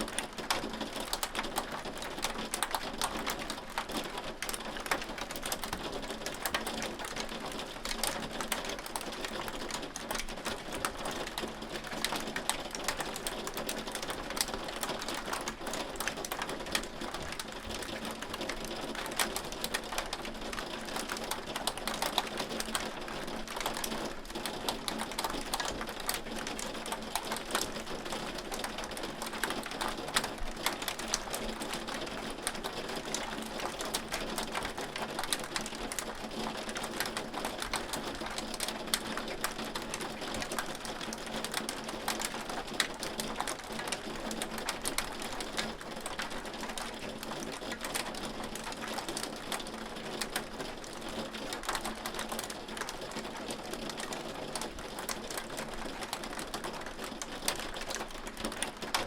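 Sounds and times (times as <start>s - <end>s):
hail clicking on hard surface: 0.0s - 59.0s.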